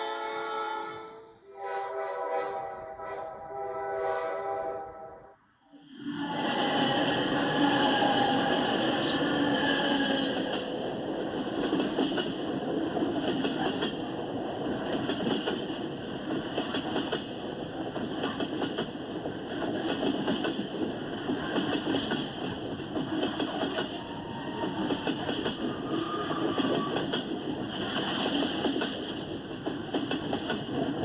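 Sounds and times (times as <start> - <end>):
freight train rattling on rails: 5.8 - 31.0.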